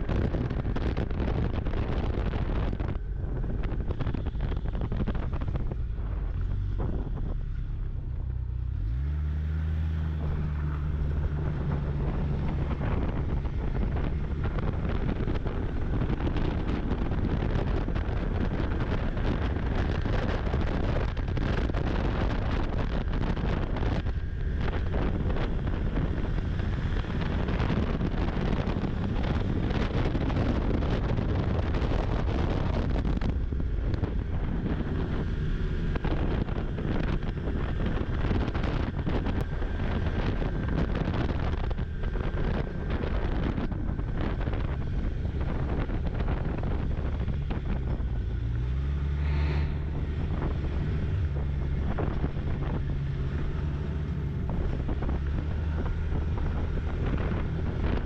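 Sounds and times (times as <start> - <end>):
wind buffeting microphone: 0.0 - 58.0
snowmobile engine running: 9.1 - 58.0.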